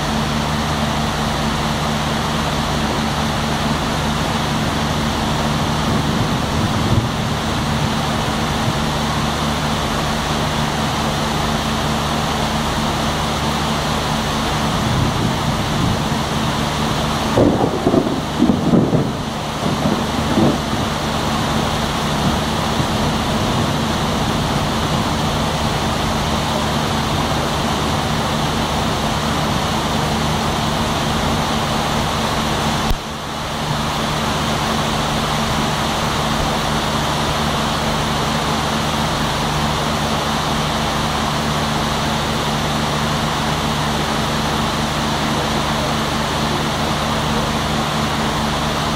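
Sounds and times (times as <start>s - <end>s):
generators humming: 0.0s - 48.9s
heavy rain falling: 0.0s - 48.9s.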